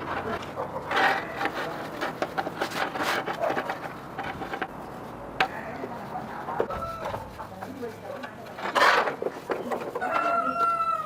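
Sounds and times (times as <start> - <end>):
objects scraping and rubbing: 0.0 - 11.0.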